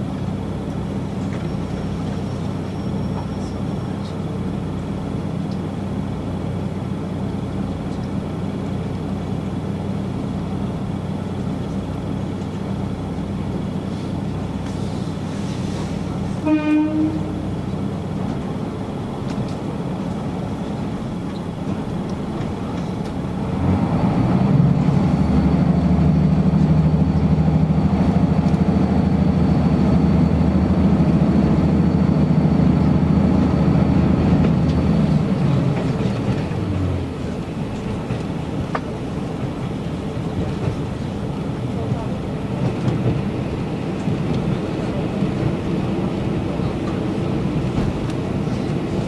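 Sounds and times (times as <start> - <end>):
railcar engine humming: 0.0 - 49.0.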